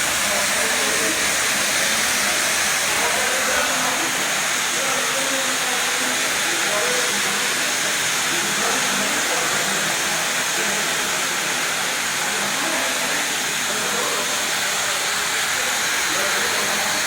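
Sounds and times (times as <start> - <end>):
carpet washing machine hissing: 0.0 - 17.0.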